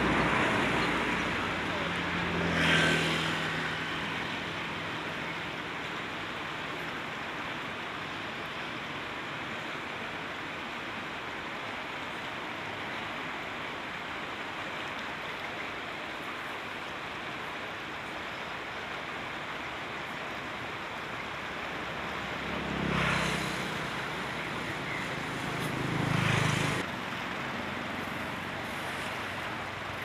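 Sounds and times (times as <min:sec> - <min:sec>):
fast-flowing river rushing: 0:00.0 - 0:30.0.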